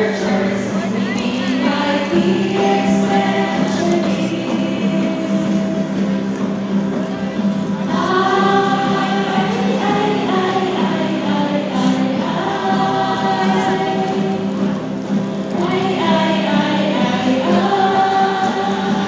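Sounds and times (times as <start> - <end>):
mixed choir singing: 0.0 - 6.2, 7.8 - 19.0.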